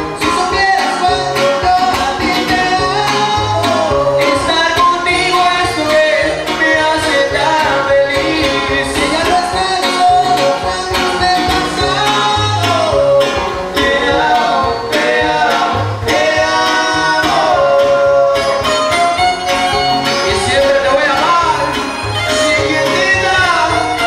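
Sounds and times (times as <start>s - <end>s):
person singing: 0.0s - 24.0s
strummed guitars: 0.0s - 24.0s
violin melody: 0.0s - 24.0s.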